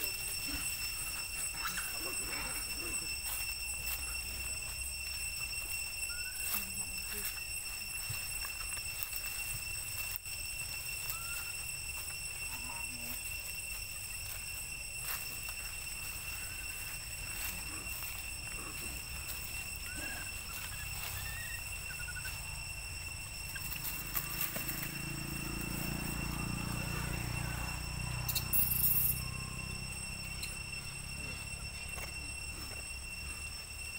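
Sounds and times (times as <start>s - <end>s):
faint chirps: 0.0s - 33.9s
high-pitched drone: 0.0s - 33.9s.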